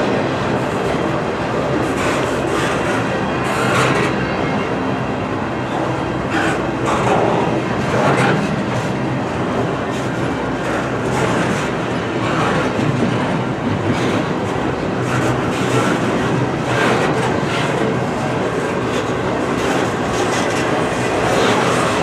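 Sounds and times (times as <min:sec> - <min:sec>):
train wheels clattering on rails: 0:00.0 - 0:04.8, 0:05.6 - 0:22.0.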